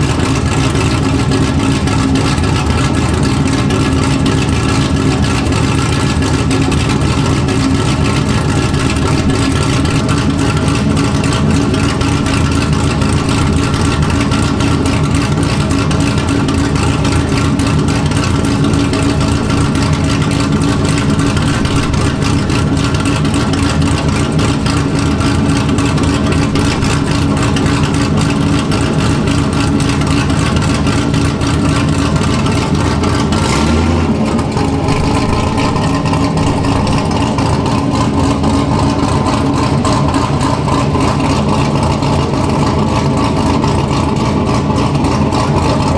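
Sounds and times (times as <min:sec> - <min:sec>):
loud car engine running steadily: 0:00.0 - 0:45.9.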